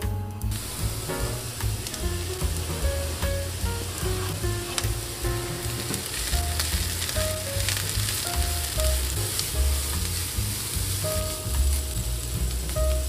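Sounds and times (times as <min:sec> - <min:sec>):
soft background music: 0:00.0 - 0:13.0
vegetables sizzling in oil: 0:00.5 - 0:13.0
wooden spatula stirring: 0:00.9 - 0:12.8.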